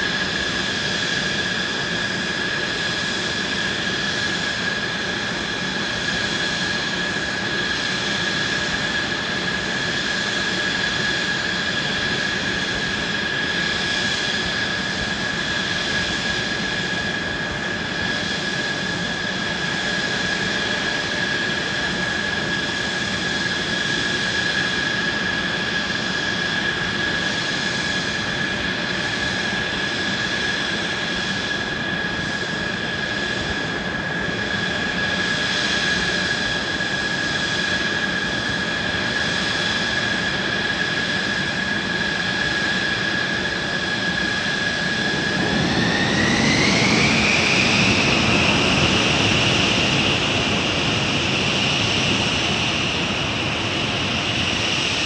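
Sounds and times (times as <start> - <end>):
jet engine rushing hiss: 0.0 - 55.0
jet engine whine: 0.0 - 55.0.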